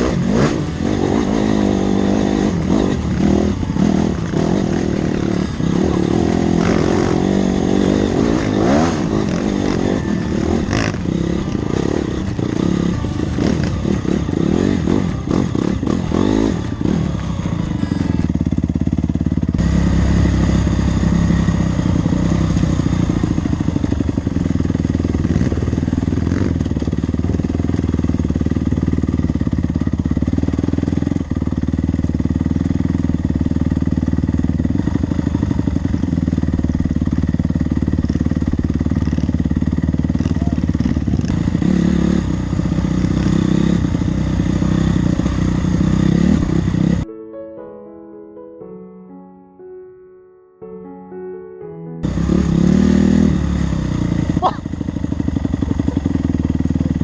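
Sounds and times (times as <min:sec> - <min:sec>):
dirt bike engine revving: 0:00.0 - 0:47.0, 0:52.0 - 0:57.0.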